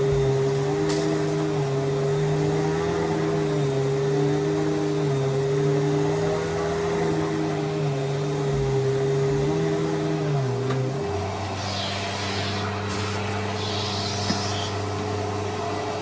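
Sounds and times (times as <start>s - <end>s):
upright vacuum cleaner running: 0.0s - 16.0s.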